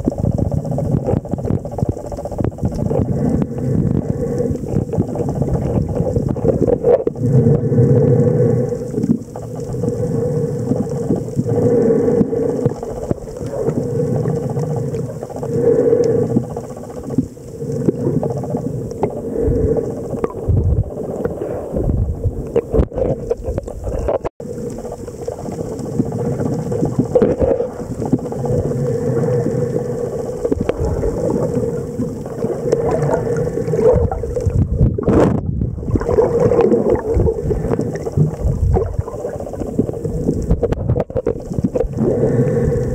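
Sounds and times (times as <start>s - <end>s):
underwater rumbling wash: 0.0s - 42.9s.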